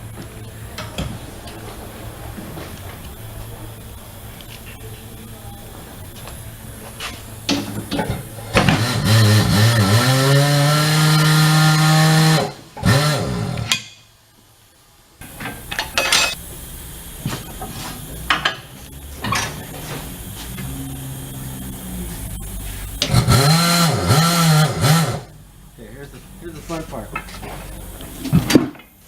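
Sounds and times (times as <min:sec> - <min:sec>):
tire changing machine motor running: 0:00.0 - 0:13.8, 0:15.2 - 0:29.0.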